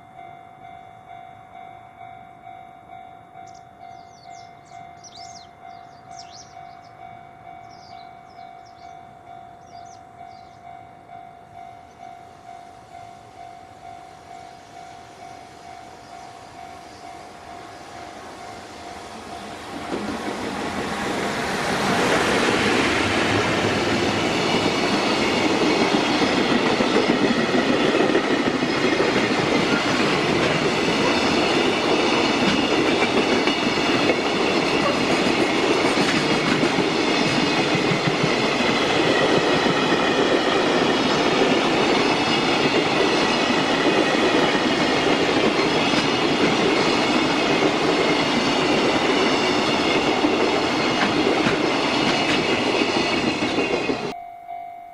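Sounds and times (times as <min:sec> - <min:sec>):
train wheels rumbling on rails: 0:03.4 - 0:54.2.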